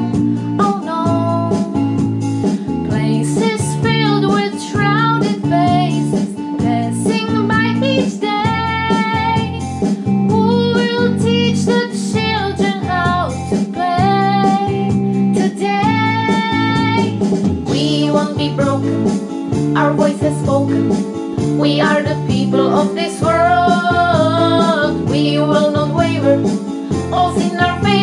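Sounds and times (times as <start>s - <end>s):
guitar accompaniment: 0.0s - 28.0s
woman singing: 0.6s - 2.0s, 2.8s - 9.7s, 10.3s - 28.0s.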